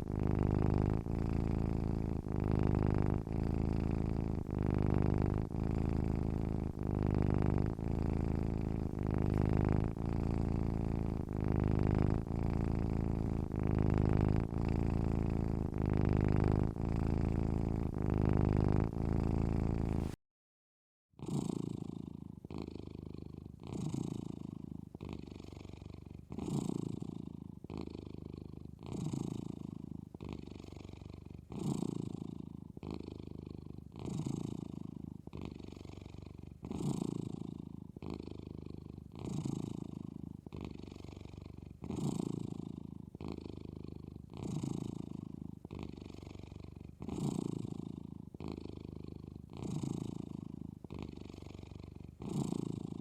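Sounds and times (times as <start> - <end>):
cat snoring: 0.0 - 20.2, 21.2 - 53.0.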